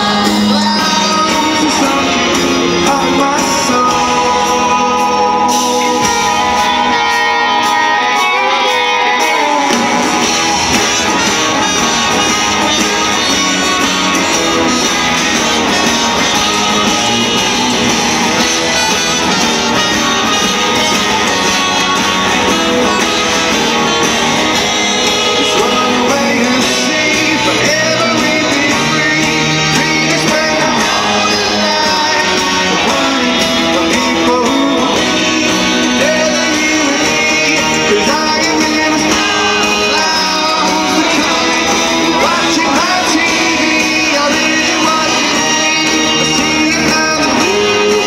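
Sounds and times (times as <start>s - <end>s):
guitars strummed: 0.0s - 48.0s
live rock band: 0.0s - 48.0s
person singing: 0.0s - 48.0s.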